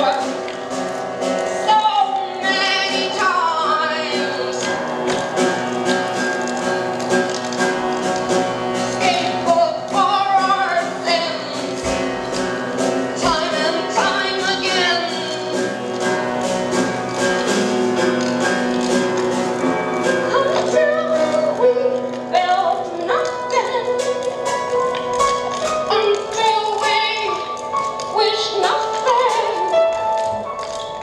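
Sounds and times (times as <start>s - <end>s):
upright piano playing: 0.0s - 31.0s.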